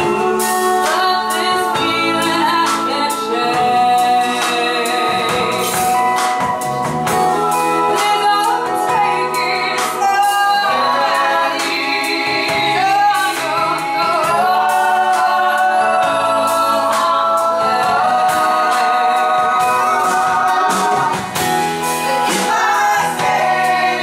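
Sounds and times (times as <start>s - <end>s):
woman singing a slow rock song: 0.0s - 6.5s, 7.1s - 24.0s
drums: 0.0s - 24.0s
electric guitar: 0.0s - 24.0s.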